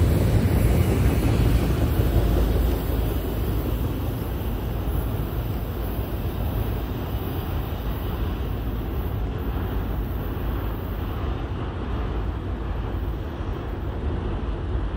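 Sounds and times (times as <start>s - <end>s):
freight train rumbling: 0.0s - 14.9s.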